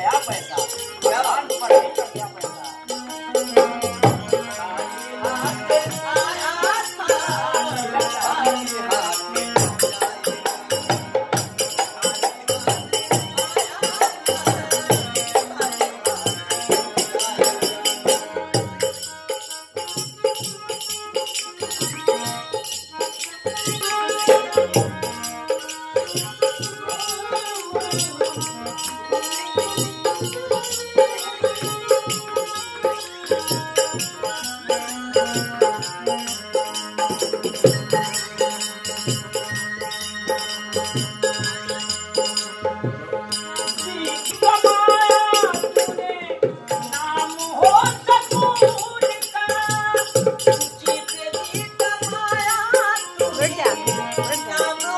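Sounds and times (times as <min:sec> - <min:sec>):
harmonium: 0:00.0 - 0:54.9
jingling hand percussion: 0:00.0 - 0:54.9.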